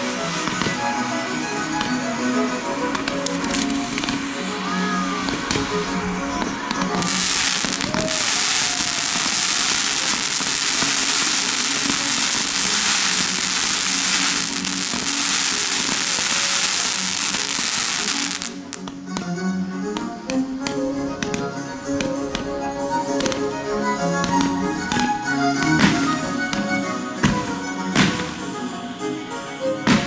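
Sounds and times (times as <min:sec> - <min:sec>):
background music: 0:00.0 - 0:30.0
fireworks crackling: 0:00.0 - 0:30.0.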